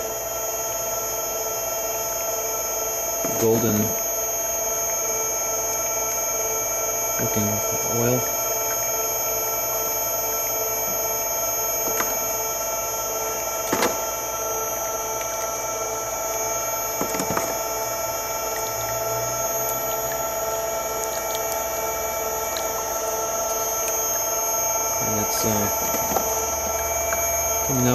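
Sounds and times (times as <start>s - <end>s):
oil press mechanical hum: 0.0s - 27.9s.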